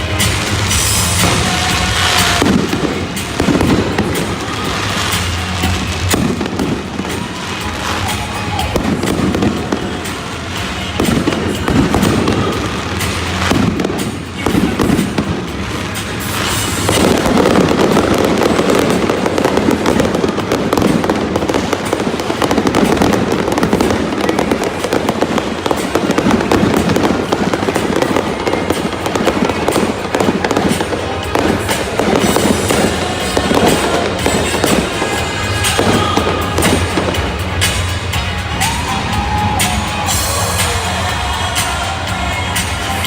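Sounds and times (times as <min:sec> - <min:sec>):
fireworks bursting and crackling: 0:00.0 - 0:43.0
music over sound system: 0:00.0 - 0:43.0.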